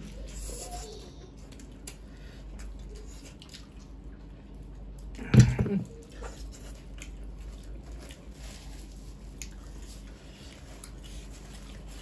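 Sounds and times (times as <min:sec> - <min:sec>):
wet chewing and squishing: 0:01.4 - 0:05.2, 0:05.8 - 0:12.0.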